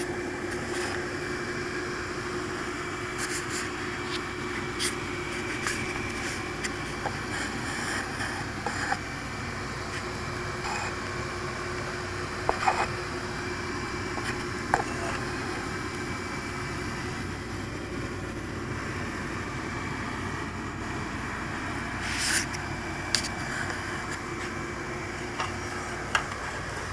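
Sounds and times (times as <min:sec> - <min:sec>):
electric motors humming: 0:00.0 - 0:26.9.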